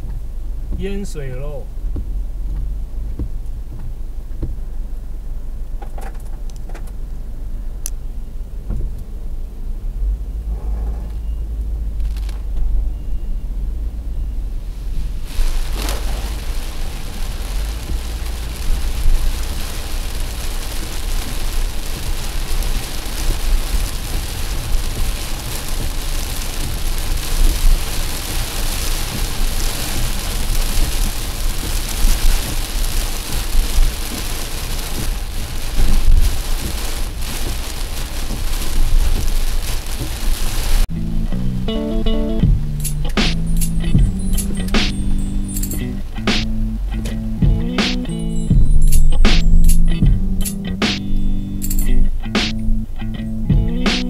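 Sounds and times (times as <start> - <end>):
heavy rain on car roof: 0.0 - 41.2, 42.4 - 52.5
low rumble of car: 0.0 - 54.0.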